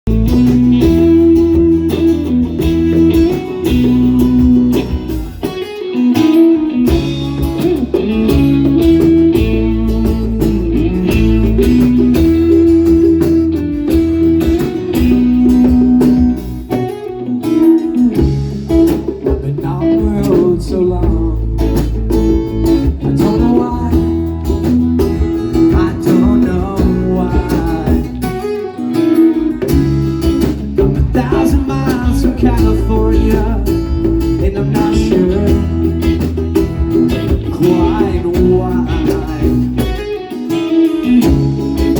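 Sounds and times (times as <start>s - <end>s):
band playing instrumental music: 0.0s - 41.9s.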